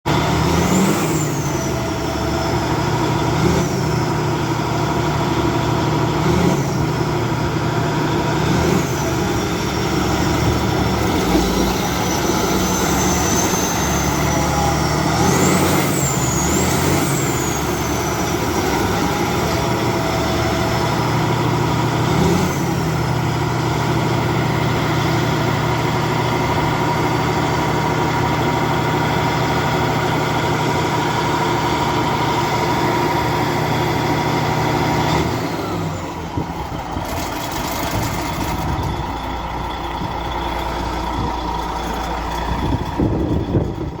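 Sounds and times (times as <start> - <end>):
bulldozer diesel engine revving: 0.0 - 44.0.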